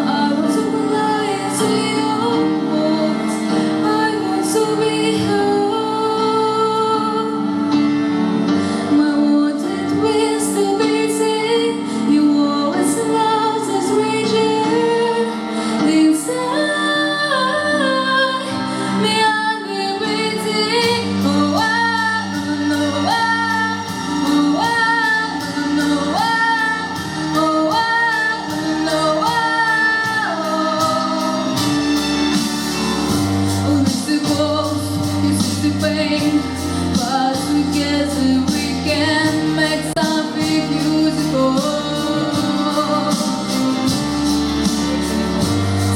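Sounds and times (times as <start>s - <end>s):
woman singing: 0.0s - 8.0s, 8.8s - 32.3s, 33.1s - 45.9s
instrumental accompaniment: 0.0s - 45.9s.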